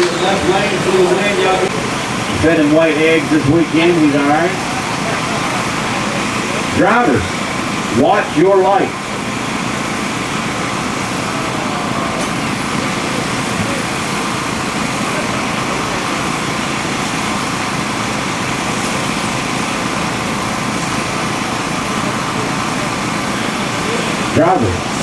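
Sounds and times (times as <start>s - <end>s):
steady mechanical drone with hiss: 0.0s - 25.0s.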